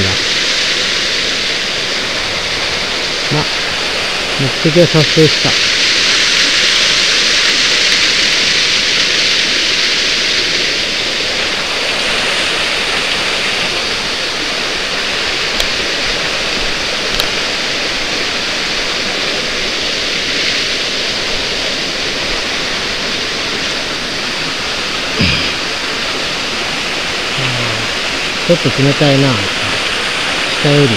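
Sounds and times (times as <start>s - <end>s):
waterfall pouring into a pool: 0.0s - 30.9s.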